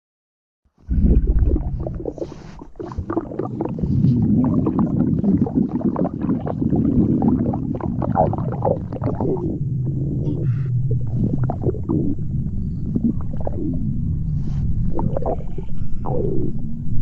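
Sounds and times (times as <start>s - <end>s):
stomach gurgling and rumbling: 0.8s - 17.0s.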